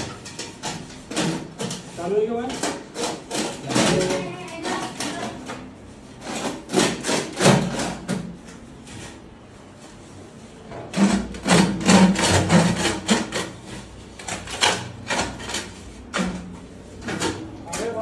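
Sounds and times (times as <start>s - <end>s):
aluminium duct crinkling and scraping: 0.0s - 16.2s.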